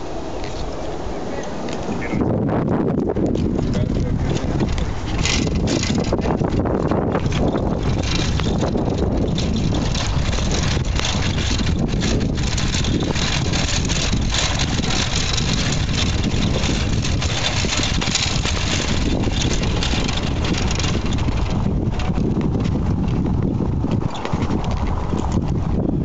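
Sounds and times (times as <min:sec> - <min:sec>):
tyres rumbling over cobblestones: 0:00.0 - 0:26.0
wind rushing over microphone: 0:00.0 - 0:26.0.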